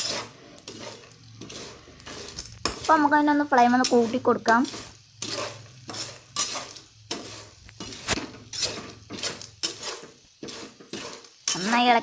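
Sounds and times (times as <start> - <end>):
light oil sizzle: 0.0 - 12.0
spatula scraping kernels in pan: 0.0 - 12.0.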